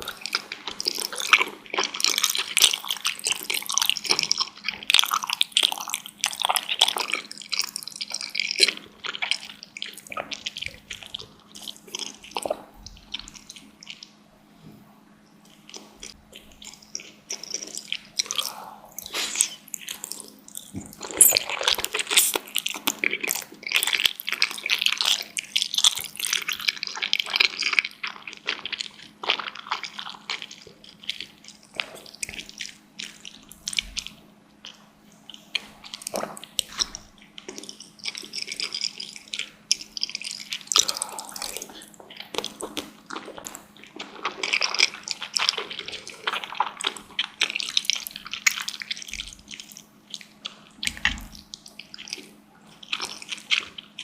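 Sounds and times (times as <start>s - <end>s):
wet chewing and smacking: 0.0s - 14.6s, 15.3s - 54.0s
faint steady hum: 0.0s - 54.0s.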